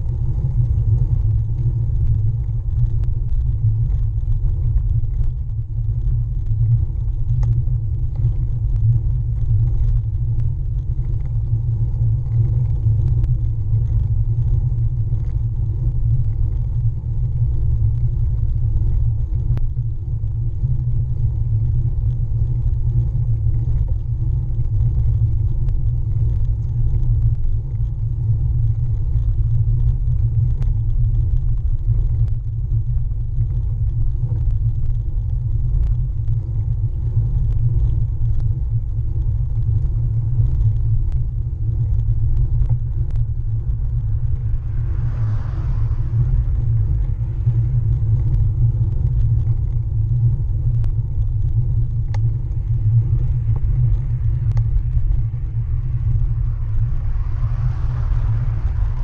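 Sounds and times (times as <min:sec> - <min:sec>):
bike tyres rolling on tarmac: 0:00.0 - 0:59.0
faint ticks: 0:00.0 - 0:59.0.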